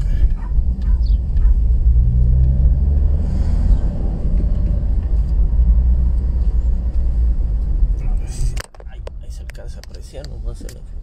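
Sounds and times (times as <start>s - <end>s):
faint engine hum: 0.0s - 9.4s
car engine and tyres rumbling: 0.0s - 11.0s.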